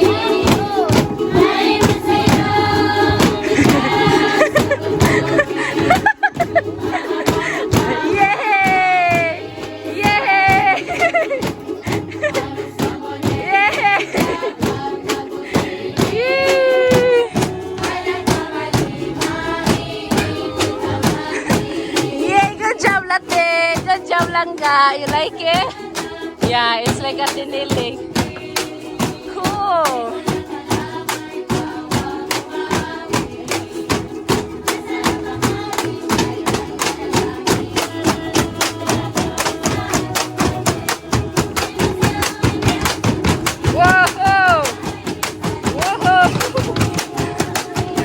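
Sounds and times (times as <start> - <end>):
bamboo poles clacking: 0.0 - 26.2, 26.9 - 48.0
folk dance music: 0.0 - 48.0
percussive beat: 0.0 - 48.0
person singing: 0.0 - 48.0.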